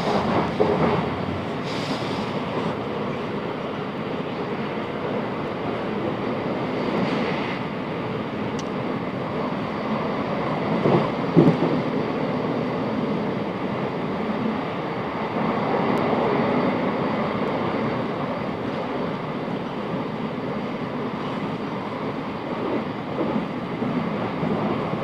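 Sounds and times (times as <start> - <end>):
louder train clatter: 0.0 - 25.0
train wheels rumbling on rails: 0.0 - 25.0.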